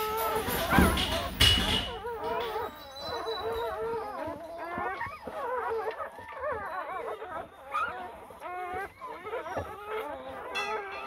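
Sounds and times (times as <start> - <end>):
puppies squealing and whimpering: 0.0 - 11.0.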